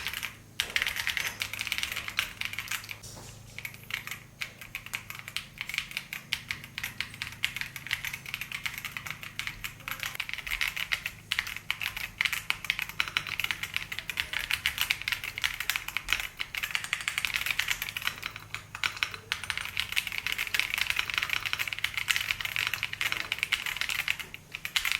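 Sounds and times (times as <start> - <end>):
mechanical keyboard typing: 0.0 - 24.9.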